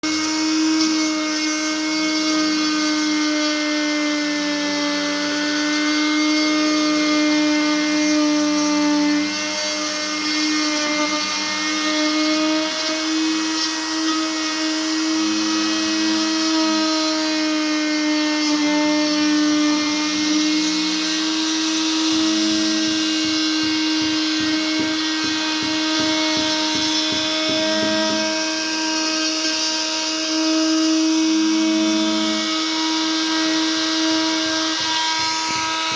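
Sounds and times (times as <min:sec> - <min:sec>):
power tool whining carving wood: 0:00.0 - 0:35.9.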